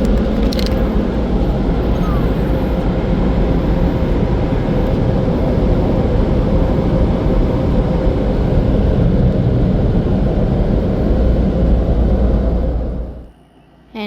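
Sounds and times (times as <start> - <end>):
car wash machinery rushing: 0.0 - 13.3
faint steady whine: 0.0 - 14.0.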